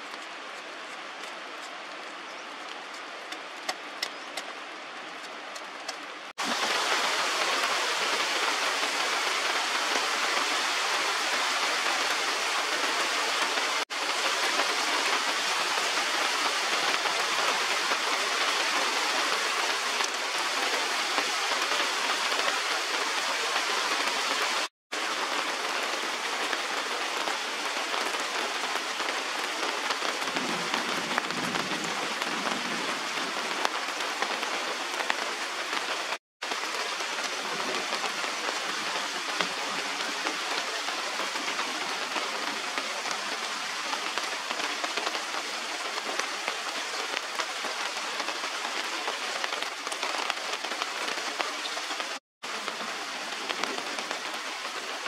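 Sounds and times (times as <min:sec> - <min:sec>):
heavy rain on foliage: 0:00.0 - 0:55.0.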